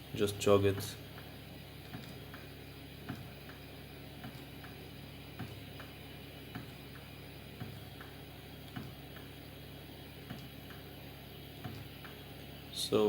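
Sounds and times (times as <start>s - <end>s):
steady low hum: 0.0s - 13.0s
stepper motor ticking: 0.0s - 13.0s.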